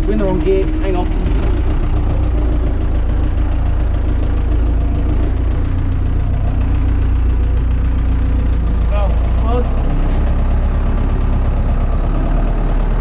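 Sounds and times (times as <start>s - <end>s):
tractor diesel engine rumbling: 0.0s - 13.0s.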